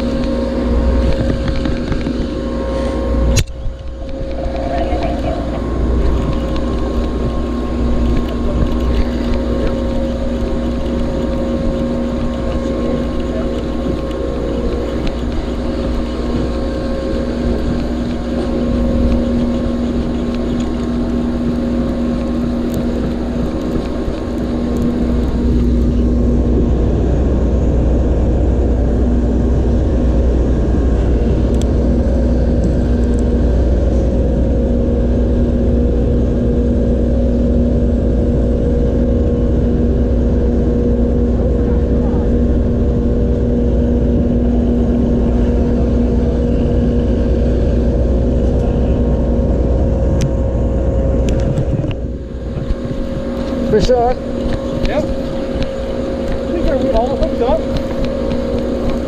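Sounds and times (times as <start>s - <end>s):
engine hum with low rumble: 0.0s - 59.0s.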